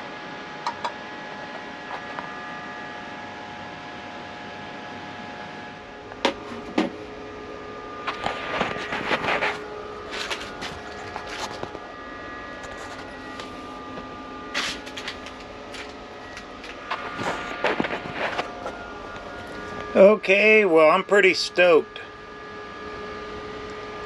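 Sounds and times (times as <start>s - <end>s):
power supply humming: 0.0s - 24.0s.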